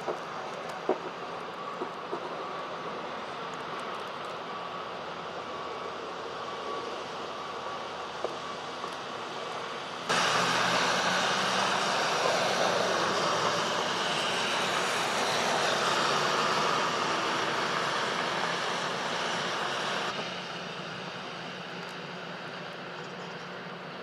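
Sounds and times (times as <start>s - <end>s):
vehicle and street noise: 0.0s - 24.0s.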